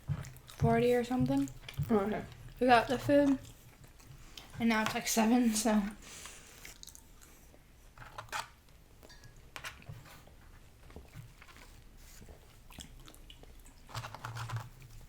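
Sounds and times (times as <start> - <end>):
people chewing food: 0.0 - 15.0.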